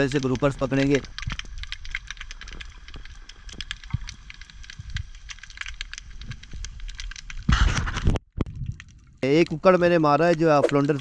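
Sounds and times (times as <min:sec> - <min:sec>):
crackle of small clicks underwater: 0:00.0 - 0:11.0
low rumble of moving water: 0:00.0 - 0:11.0.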